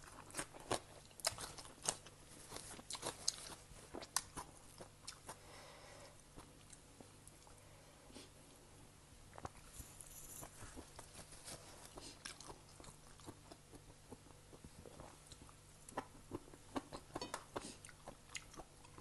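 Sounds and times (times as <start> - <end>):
person chewing crunchy food: 0.0 - 7.6, 10.4 - 19.0.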